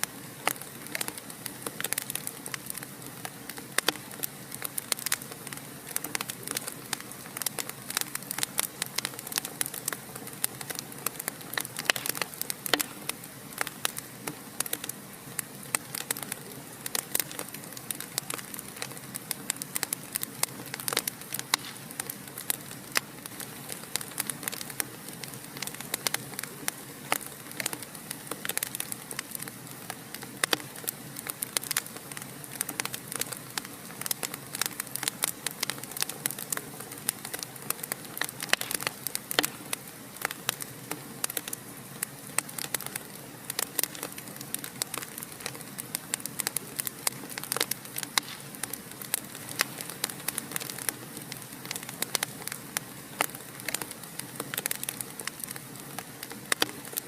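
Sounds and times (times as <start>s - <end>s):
soft hiss of fire: 0.0s - 57.0s
wood fire crackling and popping: 0.0s - 57.0s.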